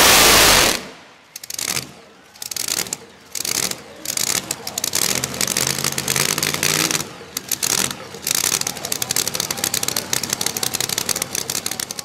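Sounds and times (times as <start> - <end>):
truck engine idling with choppy rattle: 1.3 - 12.0.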